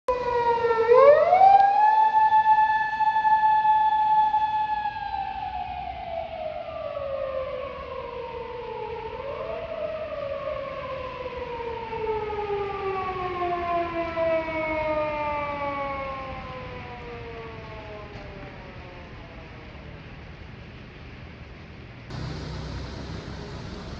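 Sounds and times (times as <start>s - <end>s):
emergency vehicle siren: 0.1s - 20.5s, 22.1s - 23.9s.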